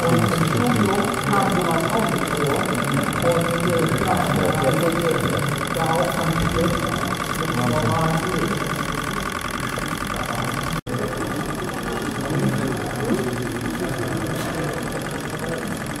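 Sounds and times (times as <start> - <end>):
faint voices: 0.0 - 16.0
model engines clattering: 0.0 - 16.0.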